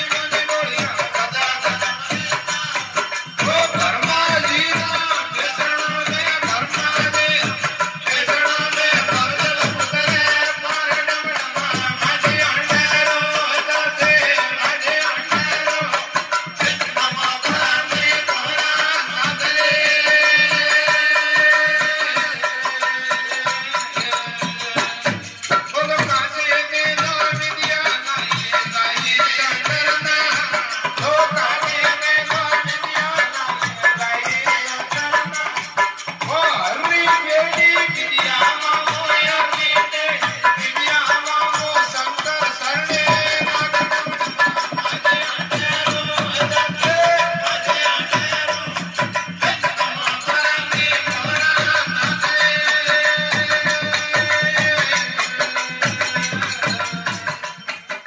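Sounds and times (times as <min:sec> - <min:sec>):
hand drum beat: 0:00.0 - 0:58.0
sharp percussive strikes: 0:00.0 - 0:58.0.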